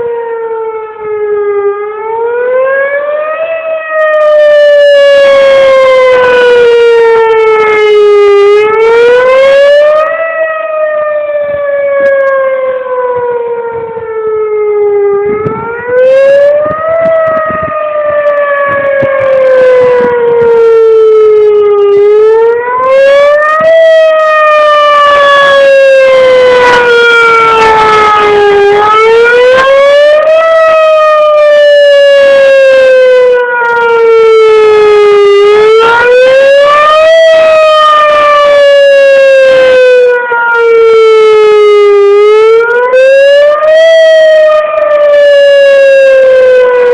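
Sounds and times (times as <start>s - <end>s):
wailing warning siren: 0.0s - 46.9s.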